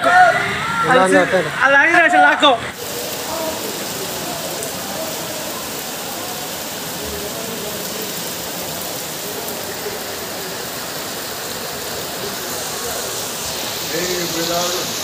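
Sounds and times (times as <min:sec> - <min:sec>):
heavy rain on water: 0:02.7 - 0:15.0.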